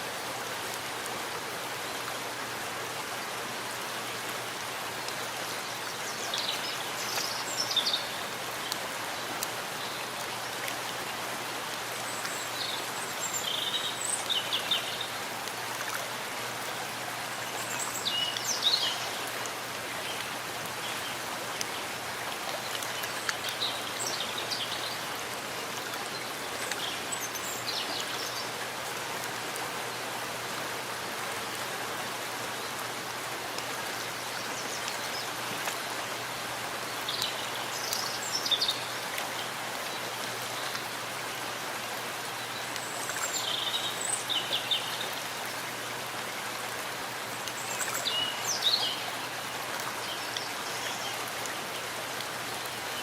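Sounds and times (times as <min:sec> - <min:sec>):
rain falling in forest: 0:00.0 - 0:53.0.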